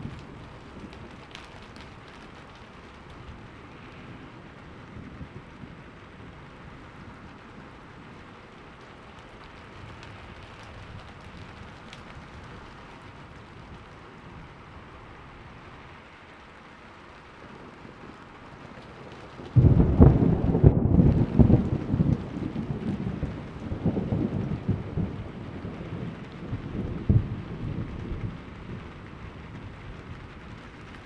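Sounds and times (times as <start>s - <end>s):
thunder crack and rumble: 0.0s - 14.8s, 17.4s - 31.0s
steady rain falling: 0.0s - 31.0s.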